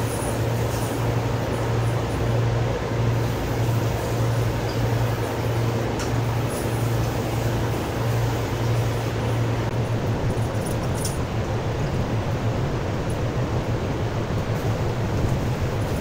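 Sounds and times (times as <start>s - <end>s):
constant rushing noise: 0.0s - 16.0s
low machine hum: 0.0s - 16.0s.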